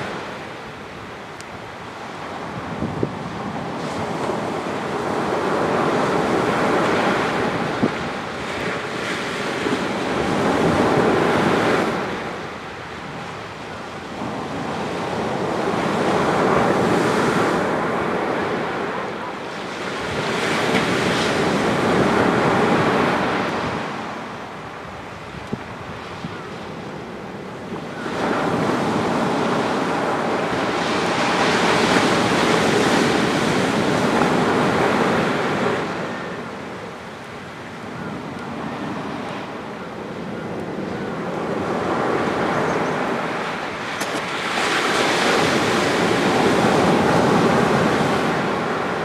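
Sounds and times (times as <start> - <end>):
waves breaking on sandy beach: 0.0 - 49.0.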